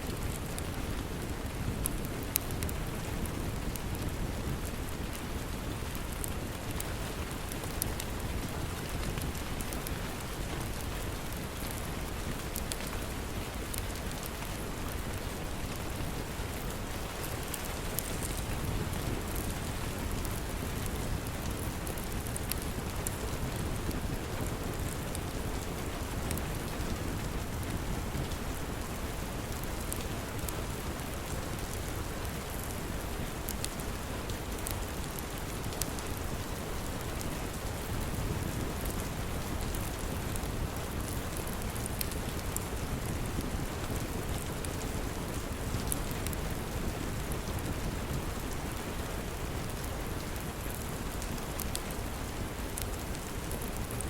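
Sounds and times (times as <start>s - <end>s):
log fire crackles: 0.0s - 54.0s
rain pouring: 0.1s - 54.0s.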